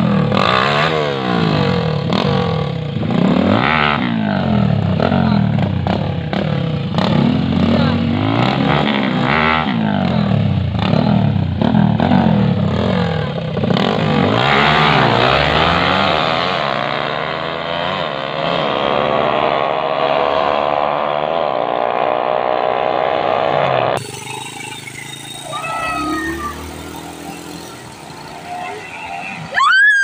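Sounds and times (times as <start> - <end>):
motorcycle engines revving: 0.0 - 30.0
motorcycles accelerating: 0.0 - 30.0.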